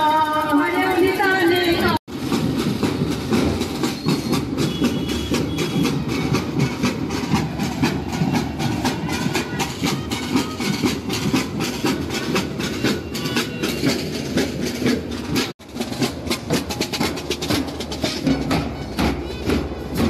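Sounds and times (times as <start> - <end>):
marching snare and bass drums: 1.0 - 20.0.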